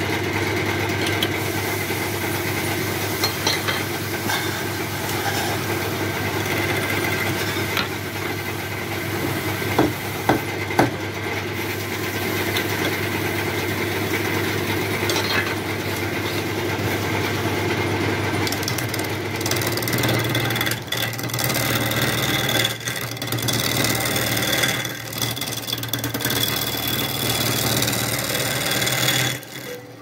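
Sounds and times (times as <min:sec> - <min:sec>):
lathe motor humming: 0:00.0 - 0:30.0
tool cutting spinning wood: 0:00.0 - 0:30.0.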